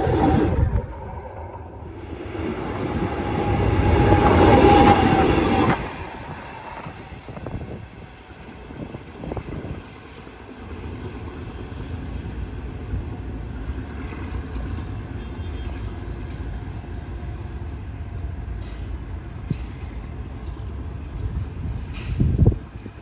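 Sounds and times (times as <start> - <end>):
diesel locomotive rumbling: 0.0 - 23.0.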